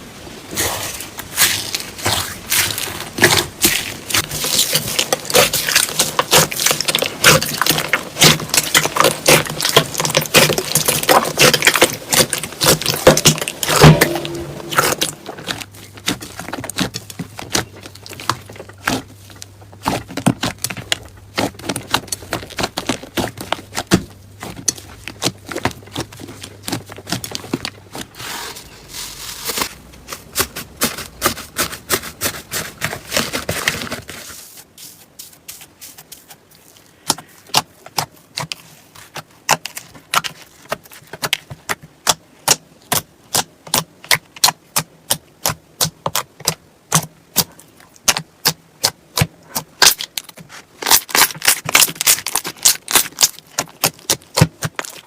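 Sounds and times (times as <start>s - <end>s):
slime crackling and popping: 0.6s - 28.2s, 37.0s - 55.0s.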